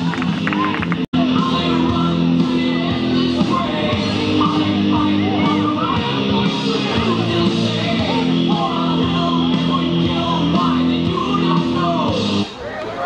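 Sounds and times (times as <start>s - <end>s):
rock music with singing: 0.0s - 12.6s.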